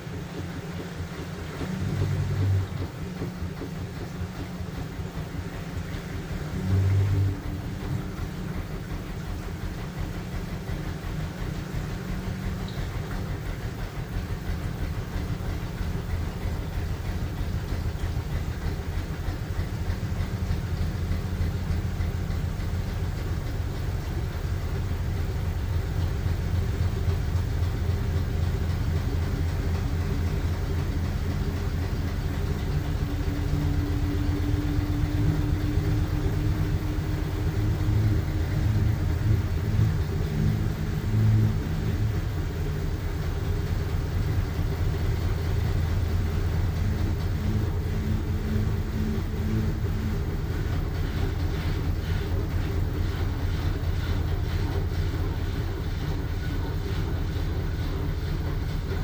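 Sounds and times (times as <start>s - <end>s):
higher motor tone: 0.0s - 59.0s
washing machine motor hum: 0.0s - 59.0s.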